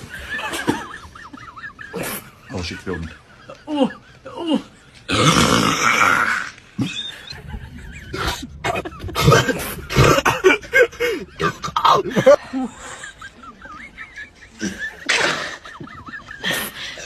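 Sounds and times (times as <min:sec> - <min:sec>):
person laughing: 0:00.0 - 0:04.8, 0:06.8 - 0:17.0.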